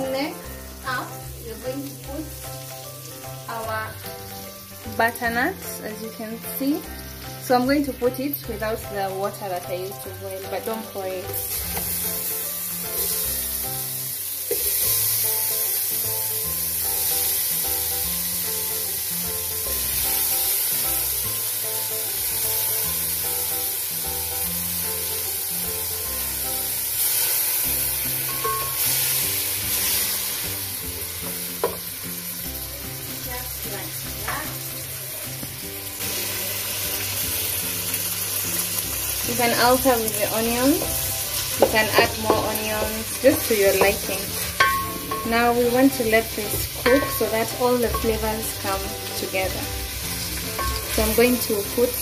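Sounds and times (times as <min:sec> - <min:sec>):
background music: 0:00.0 - 0:52.0
vegetables sizzling in a pot: 0:00.0 - 0:52.0.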